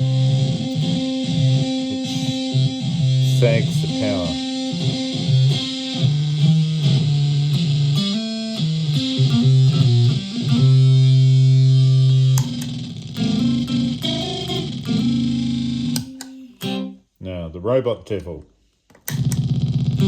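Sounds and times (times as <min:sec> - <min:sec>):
fuzzy electric ukulele: 0:00.0 - 0:17.0, 0:19.1 - 0:20.0.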